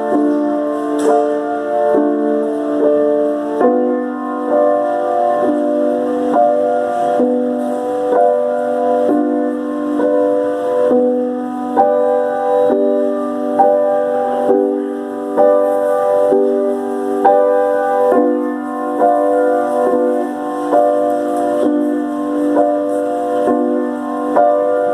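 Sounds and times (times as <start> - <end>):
piano playing slow chords: 0.0 - 24.9.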